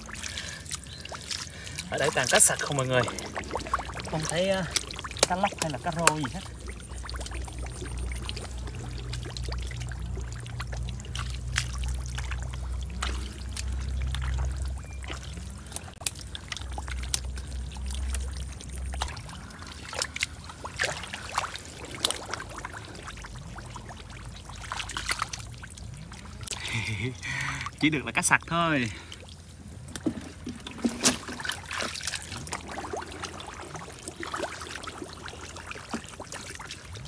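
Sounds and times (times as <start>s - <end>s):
hands splashing in muddy water: 0.0s - 27.7s, 29.1s - 37.0s
low steady hum: 0.0s - 37.0s.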